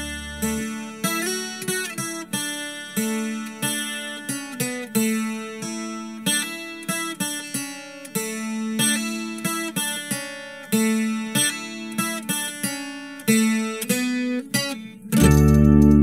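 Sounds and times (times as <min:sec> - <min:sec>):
steel-string guitar plucking and strumming: 0:00.0 - 0:16.0.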